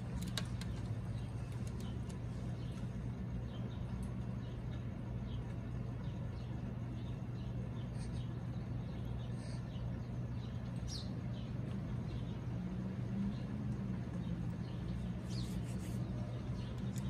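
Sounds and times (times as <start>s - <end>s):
steady low hum: 0.0s - 17.0s
faint high bird chirps: 0.7s - 17.0s.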